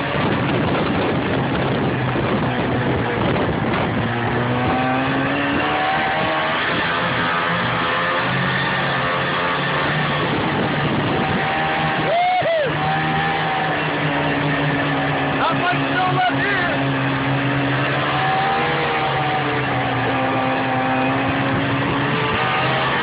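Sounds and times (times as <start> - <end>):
snowmobile engine running: 0.0 - 23.0.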